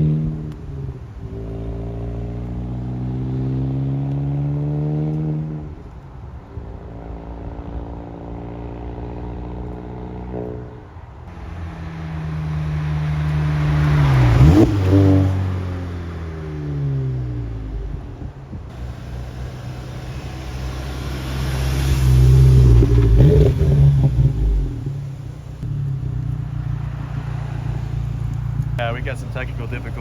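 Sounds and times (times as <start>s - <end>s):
car accelerating and passing: 0.0s - 30.0s.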